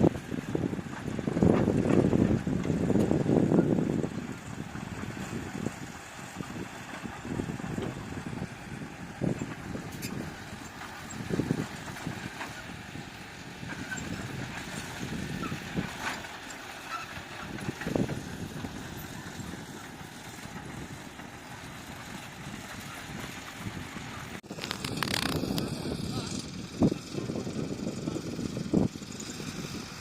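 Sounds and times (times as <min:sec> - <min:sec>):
heavy machinery running: 0:00.0 - 0:30.0.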